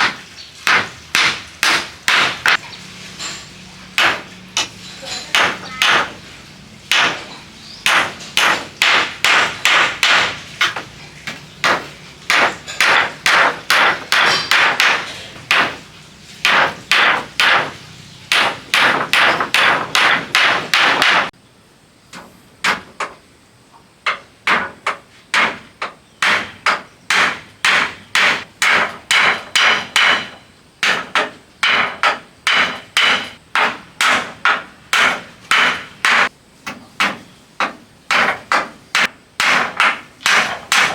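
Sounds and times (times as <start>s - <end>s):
hammer striking wood: 0.0s - 2.6s, 4.0s - 4.7s, 5.3s - 6.2s, 6.9s - 15.8s, 16.4s - 21.3s, 22.6s - 23.2s, 24.1s - 40.9s.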